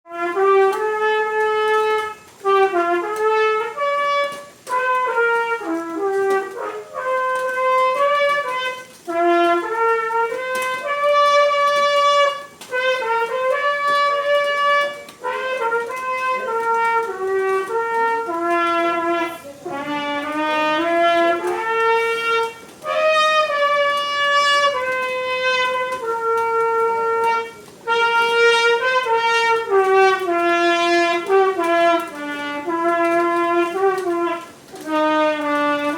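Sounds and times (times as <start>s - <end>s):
solo trumpet melody: 0.0s - 35.9s.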